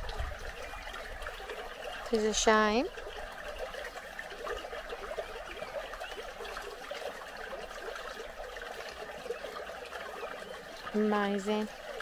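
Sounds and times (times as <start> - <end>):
stream trickling over stones: 0.0 - 12.0.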